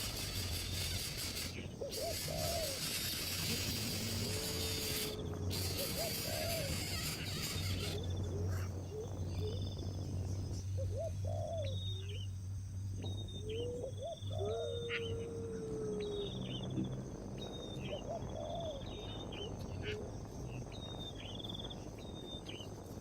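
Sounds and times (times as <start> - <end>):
birds hooting and whistling: 0.0 - 12.4, 13.0 - 22.7
birds chirping and trilling: 0.0 - 23.0
high insect-like hiss: 0.0 - 23.0
steady low hum: 0.0 - 23.0.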